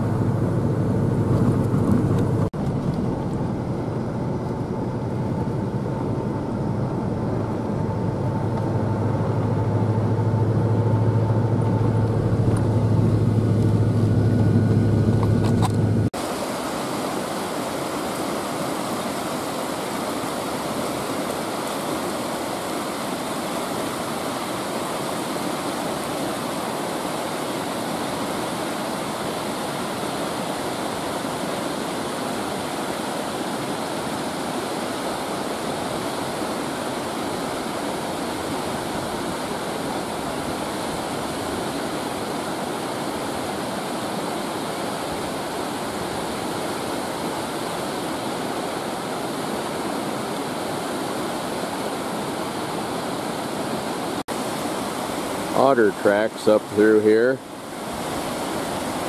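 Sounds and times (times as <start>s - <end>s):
whitewater rushing over boulders: 4.7s - 59.0s.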